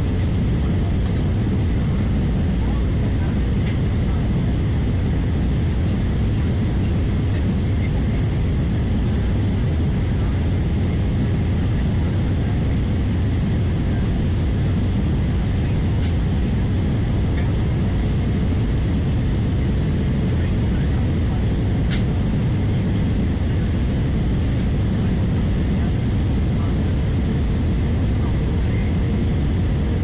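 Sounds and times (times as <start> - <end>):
airplane cabin roar: 0.0 - 30.0.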